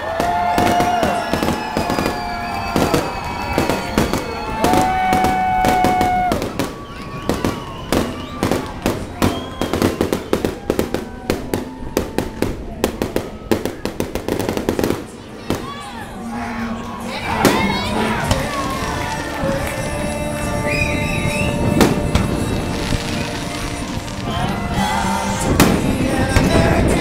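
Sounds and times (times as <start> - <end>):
fireworks bursting and crackling: 0.0 - 16.0, 17.2 - 27.0.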